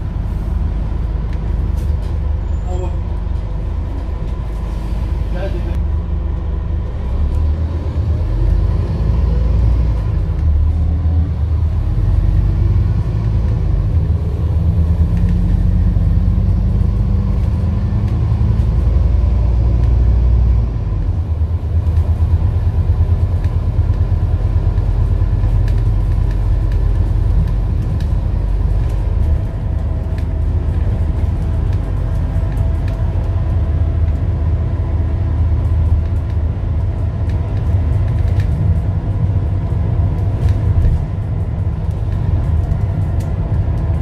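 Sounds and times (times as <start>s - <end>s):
bus engine rumbling: 0.0s - 44.0s.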